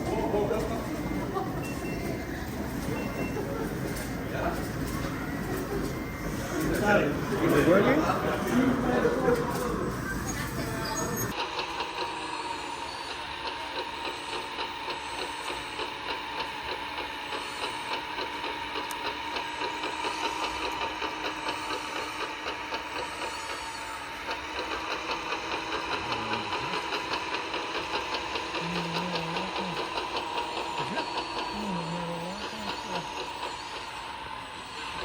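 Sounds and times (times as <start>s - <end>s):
fast mechanical pulsing: 0.0s - 35.0s
rc truck electric whine: 0.0s - 35.0s.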